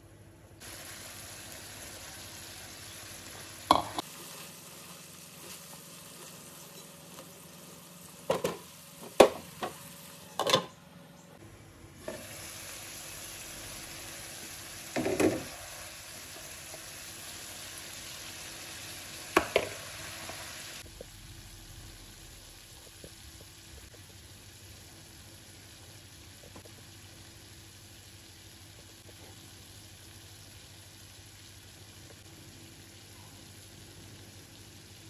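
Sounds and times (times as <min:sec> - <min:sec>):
meat and vegetables sizzling: 0:00.6 - 0:10.4, 0:12.0 - 0:35.0.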